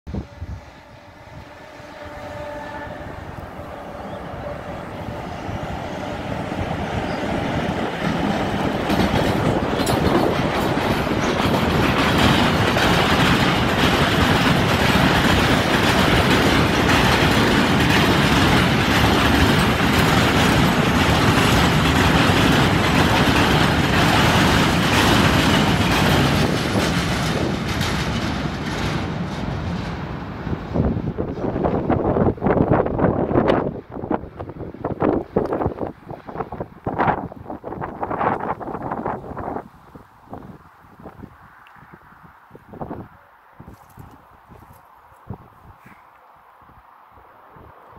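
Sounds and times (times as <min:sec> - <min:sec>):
freight train wheels rolling on rails: 0:00.1 - 0:45.4.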